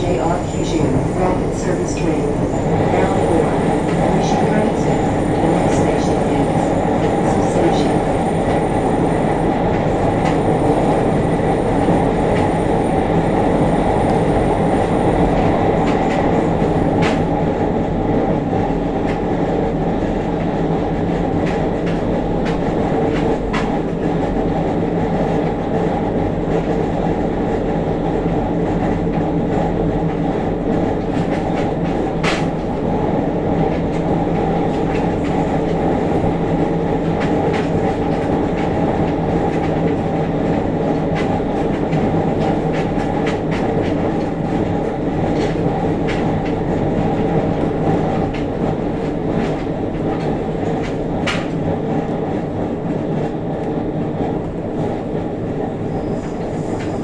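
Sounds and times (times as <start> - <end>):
train wheel rumble: 0.0 - 57.0.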